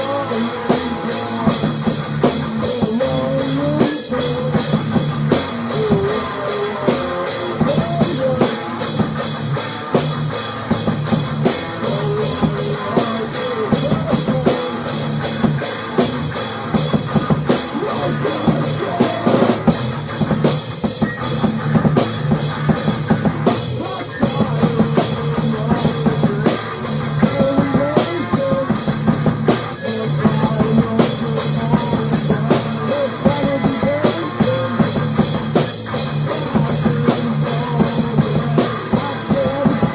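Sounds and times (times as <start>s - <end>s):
drum kit playing a beat: 0.0s - 39.9s
rock guitar and bass: 0.0s - 39.9s.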